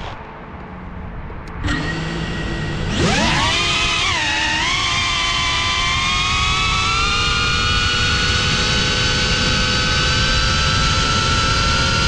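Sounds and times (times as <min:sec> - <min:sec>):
drone propellers whining: 0:00.0 - 0:12.0
wind rumble on microphone: 0:00.0 - 0:12.0.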